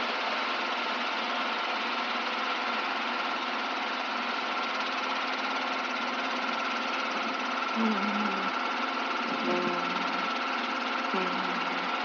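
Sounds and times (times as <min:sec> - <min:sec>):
helicopter engine and rotors: 0:00.0 - 0:12.0
thin steady whine: 0:00.0 - 0:12.0.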